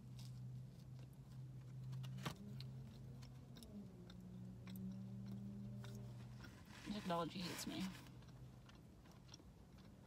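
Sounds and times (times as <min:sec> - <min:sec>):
quiet chewing: 0:00.0 - 0:10.0.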